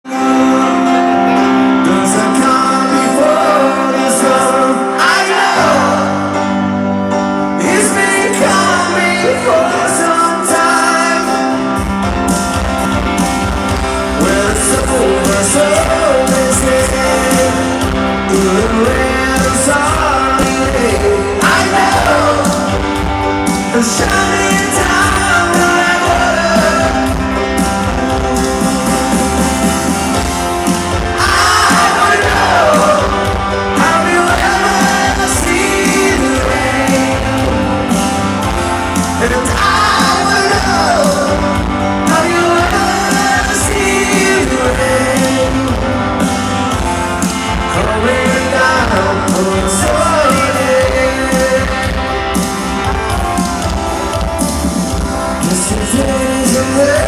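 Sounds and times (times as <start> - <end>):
electric guitar: 0.0 - 57.0
lead singer: 0.0 - 57.0
live rock band playing: 0.0 - 57.0
bass and drums: 11.3 - 57.0.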